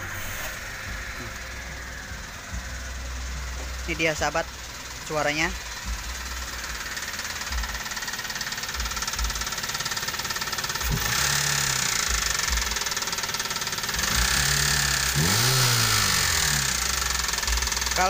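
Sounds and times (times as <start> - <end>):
car engine idling rough: 0.0 - 18.0
engine knocking clatter: 0.7 - 18.0.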